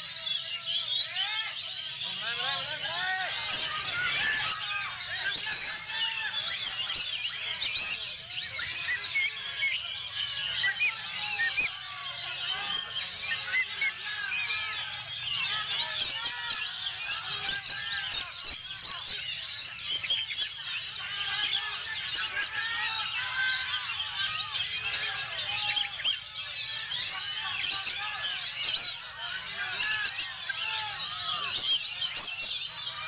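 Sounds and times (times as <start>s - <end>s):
birds chirping and trilling: 0.0s - 33.0s.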